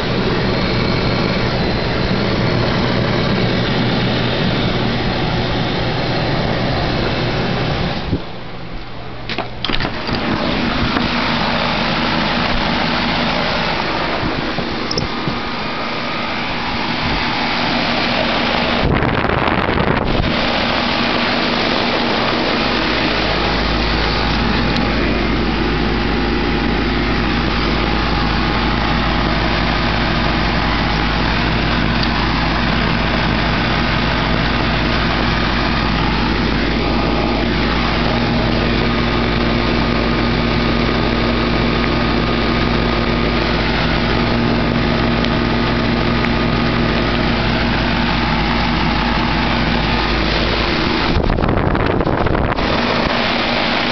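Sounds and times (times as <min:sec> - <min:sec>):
air conditioner hum and fan: 0:00.0 - 0:53.9
deeper low hum: 0:00.0 - 0:53.9.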